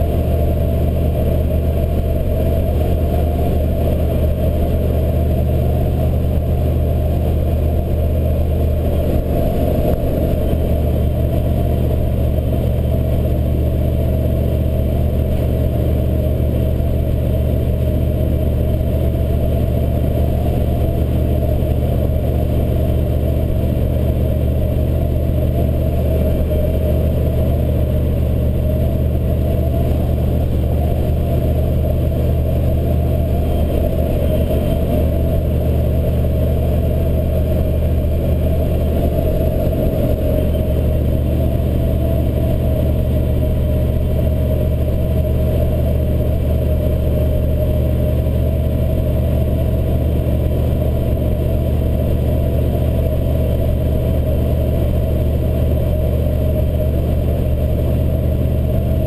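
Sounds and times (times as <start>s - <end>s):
pickup engine and road noise: 0.0s - 59.0s.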